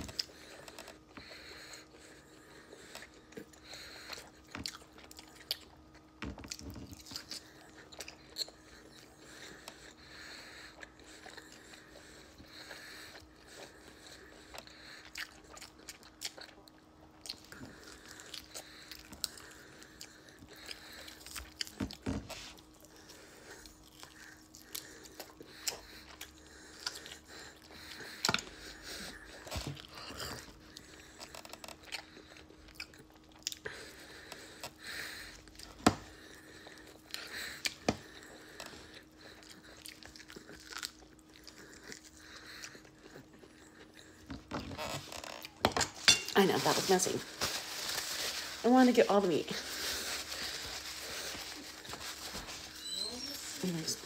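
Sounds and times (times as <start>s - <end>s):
wet chewing: 0.0s - 46.3s.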